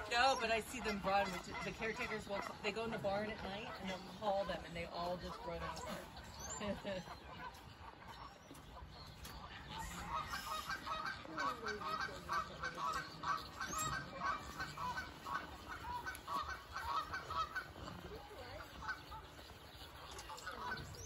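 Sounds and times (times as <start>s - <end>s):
flock of birds honking: 0.0s - 21.0s.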